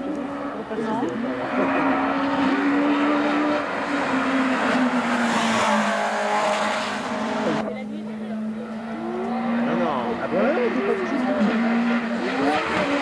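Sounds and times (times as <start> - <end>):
rally car engine passing by: 0.0 - 13.0.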